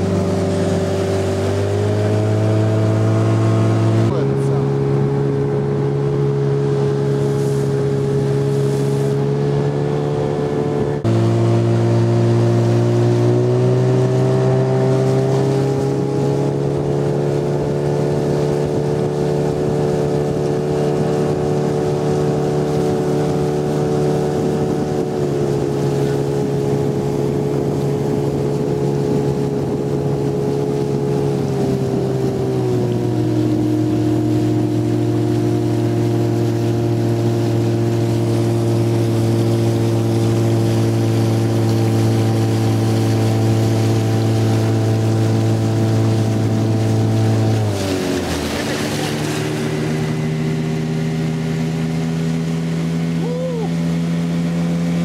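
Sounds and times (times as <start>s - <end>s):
outboard motor droning: 0.0s - 55.0s.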